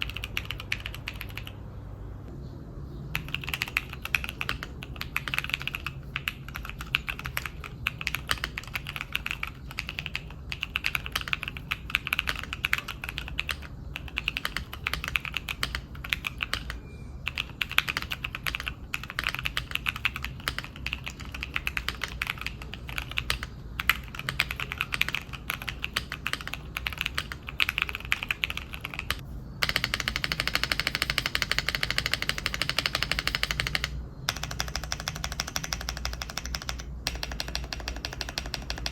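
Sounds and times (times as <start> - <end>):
mechanical keyboard typing: 0.0 - 1.6, 3.1 - 38.9.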